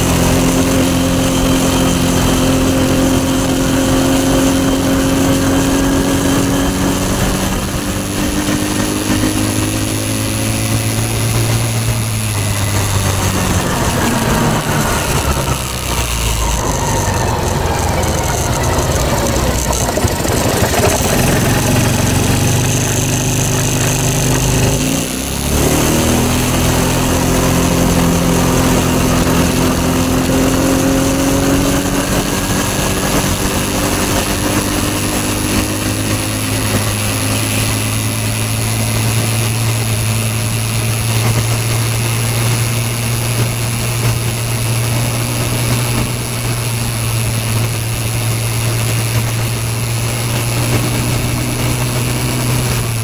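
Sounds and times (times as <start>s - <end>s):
quad bike engine: 0.0s - 53.0s.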